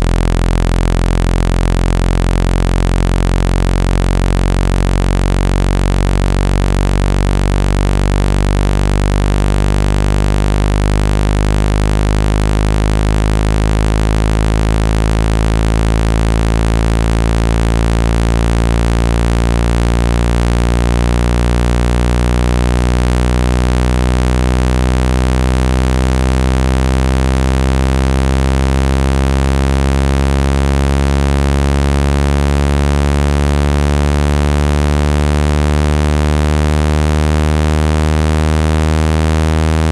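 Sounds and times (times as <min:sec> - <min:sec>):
low synthetic buzz: 0:00.0 - 0:39.9.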